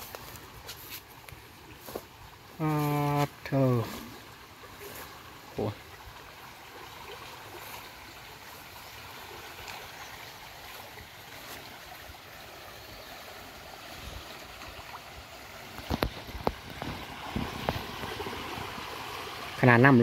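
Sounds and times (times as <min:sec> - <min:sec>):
floodwater rushing in creek: 0:00.0 - 0:20.0.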